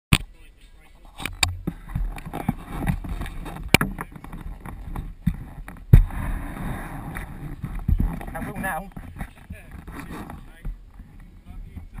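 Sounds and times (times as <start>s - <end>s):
camera handling rubbing: 1.1s - 11.3s.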